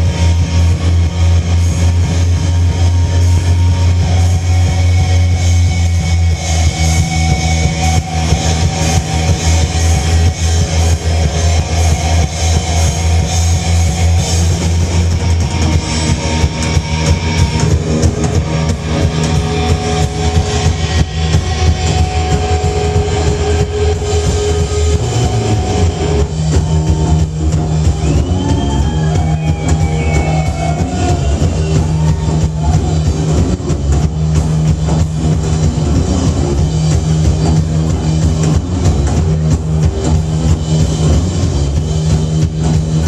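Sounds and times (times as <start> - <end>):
rock band playing live: 0.0 - 43.0.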